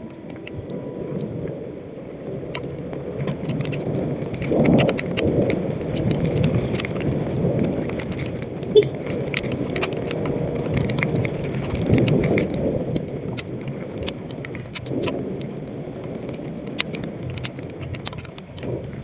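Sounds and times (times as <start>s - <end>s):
rain drops spattering: 0.0s - 19.0s
wind and road noise: 0.0s - 19.0s.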